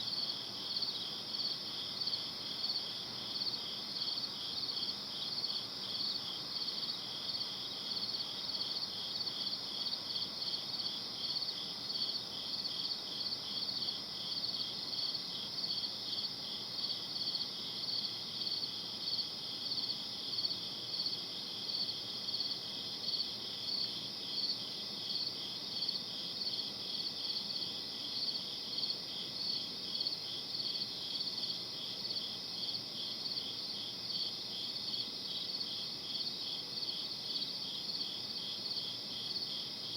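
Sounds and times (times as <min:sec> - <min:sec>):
crickets chirping: 0:00.0 - 0:39.9
faint background hiss: 0:00.0 - 0:39.9.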